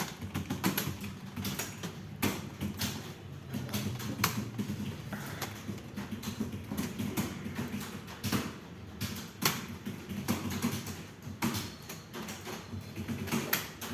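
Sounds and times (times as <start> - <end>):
keyboard typing: 0.0 - 13.9.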